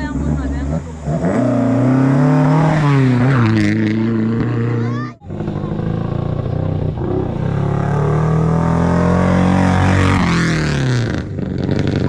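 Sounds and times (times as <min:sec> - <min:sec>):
rally car engine revving past: 0:00.0 - 0:12.0.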